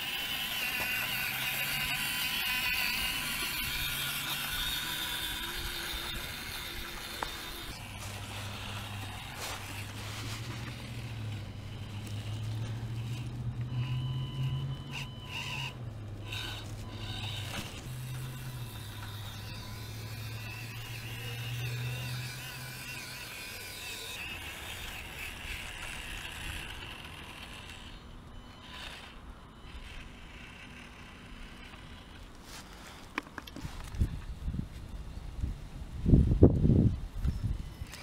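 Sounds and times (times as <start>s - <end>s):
small electric motor whining: 0.0s - 33.0s, 37.1s - 38.0s
steady low hum: 0.0s - 33.1s.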